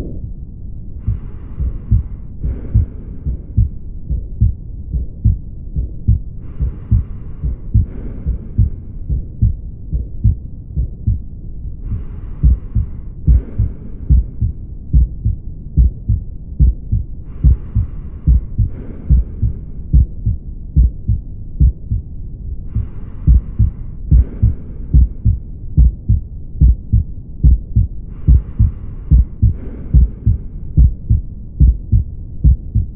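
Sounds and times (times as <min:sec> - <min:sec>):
heart murmur: 0:01.0 - 0:22.1, 0:22.7 - 0:32.9
heartbeats through stethoscope: 0:01.0 - 0:22.1, 0:22.7 - 0:32.9.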